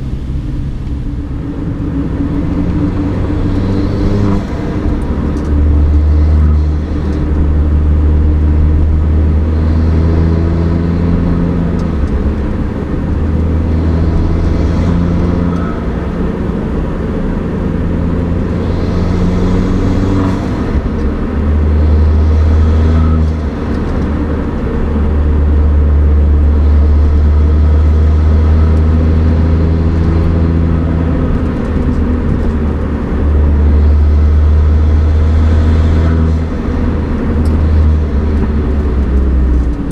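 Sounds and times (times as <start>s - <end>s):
car engine droning under load: 0.0s - 39.9s.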